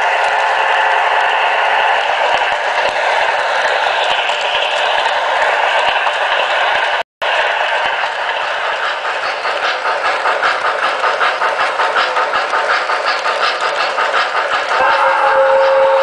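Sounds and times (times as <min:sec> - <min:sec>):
model locomotive running on track: 0:00.0 - 0:16.0.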